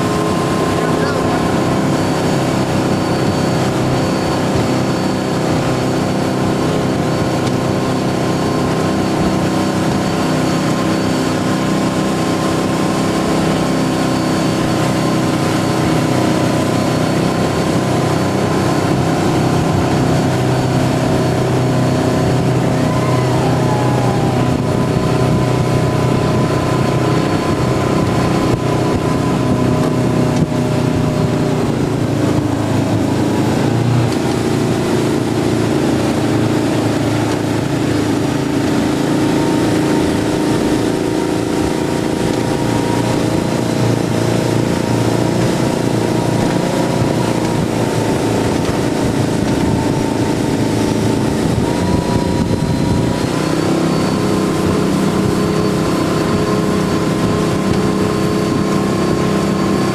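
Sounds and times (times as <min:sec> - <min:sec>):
boat engine running steadily: 0:00.0 - 0:59.9.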